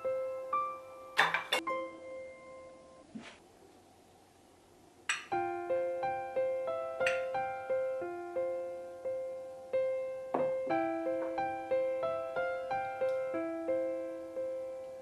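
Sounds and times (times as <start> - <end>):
gentle piano music: 0.0 - 3.1, 5.1 - 15.0.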